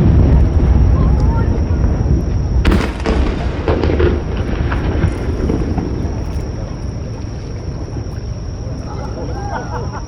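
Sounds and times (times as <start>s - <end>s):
faint fireworks crackles: 0.0s - 10.0s
fireworks rumble: 0.0s - 10.0s.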